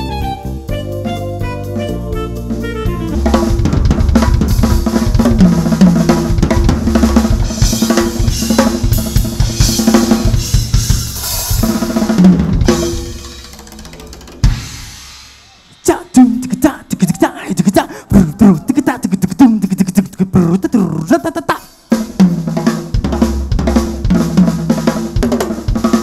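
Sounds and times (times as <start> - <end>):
drum solo: 0.0 - 26.0
pitched backing music: 0.0 - 26.0.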